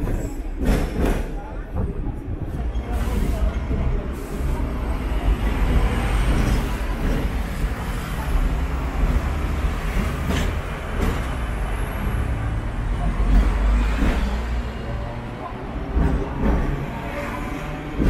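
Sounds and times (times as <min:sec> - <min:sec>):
sharp clacks of tram wheels: 0:00.0 - 0:18.0
tram rumbling on rails: 0:00.0 - 0:18.0.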